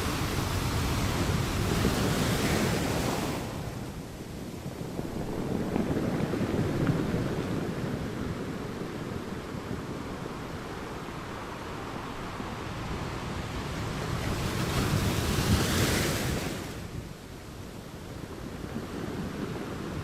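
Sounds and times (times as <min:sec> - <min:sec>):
wave breaking and washing up: 0:00.0 - 0:17.3
surf rumble: 0:00.0 - 0:20.0.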